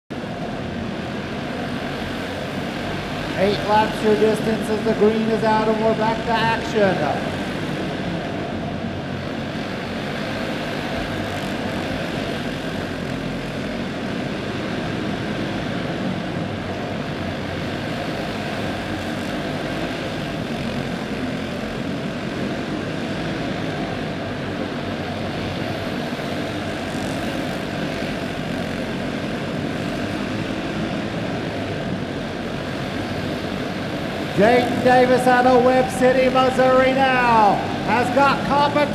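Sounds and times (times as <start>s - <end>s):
kart engines racing: 0.1s - 38.9s.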